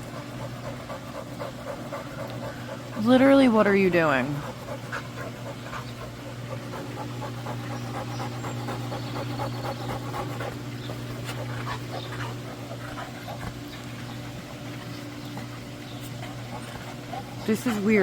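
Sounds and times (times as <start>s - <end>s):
dog panting: 0.0s - 18.0s
pool heater humming: 0.0s - 18.0s.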